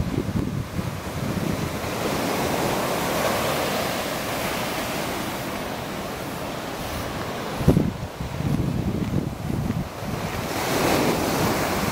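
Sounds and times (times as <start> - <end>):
sea surf breaking on beach: 0.0 - 11.9.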